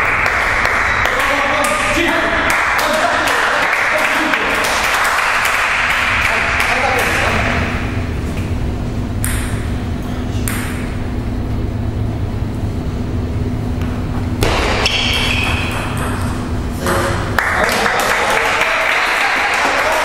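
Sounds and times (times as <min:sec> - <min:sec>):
low hum of hall: 0:00.0 - 0:20.0.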